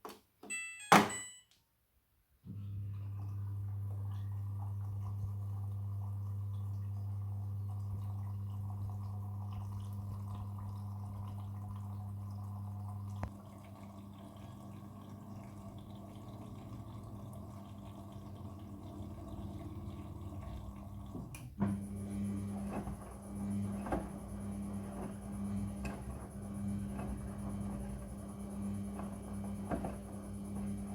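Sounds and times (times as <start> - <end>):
washing machine electrical hum: 0.4 - 1.5, 2.4 - 30.9
water running in: 2.6 - 30.9.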